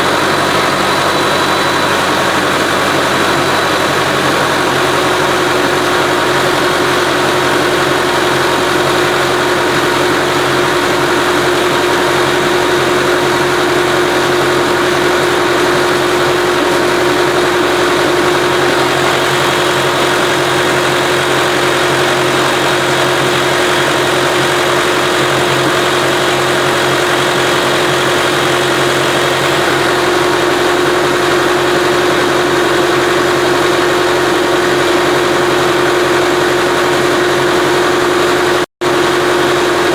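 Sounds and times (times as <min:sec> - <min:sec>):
pump whine: 0:00.0 - 0:39.9
tractor engine running: 0:00.0 - 0:39.9.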